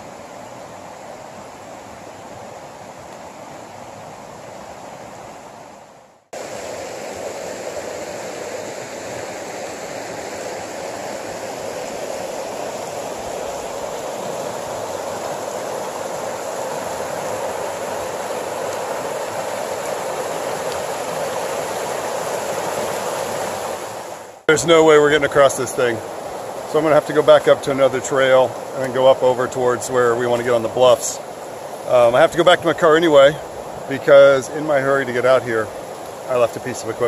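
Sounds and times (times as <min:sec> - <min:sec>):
creek water rushing over riffles: 0:00.0 - 0:37.0.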